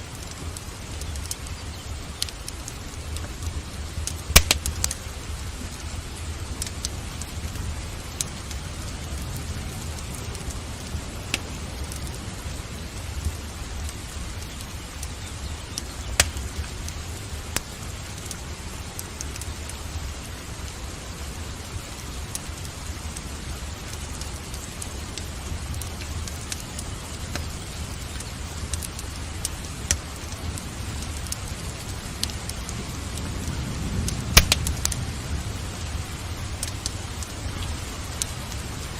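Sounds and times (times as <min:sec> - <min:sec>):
steady rain: 0:00.0 - 0:38.9
wood fire crackling and popping: 0:00.0 - 0:38.9.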